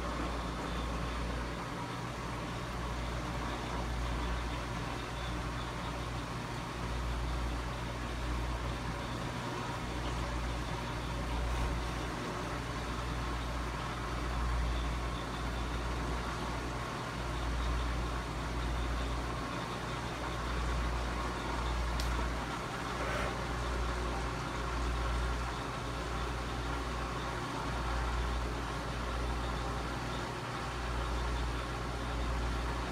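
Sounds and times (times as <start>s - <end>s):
aquarium filter hum and hiss: 0.0s - 32.9s.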